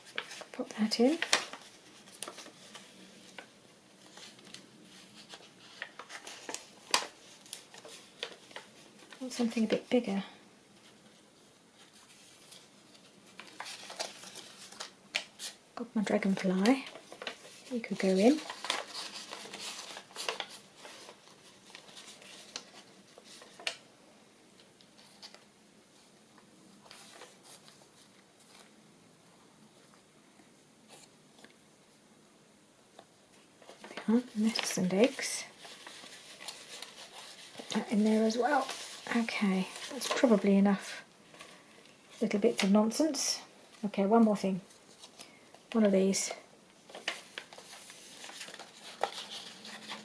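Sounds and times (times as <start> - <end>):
paper rustling: 0.0 - 10.0, 10.7 - 23.8, 24.6 - 26.1, 26.8 - 28.8, 33.0 - 43.1, 43.7 - 45.8, 46.8 - 50.0.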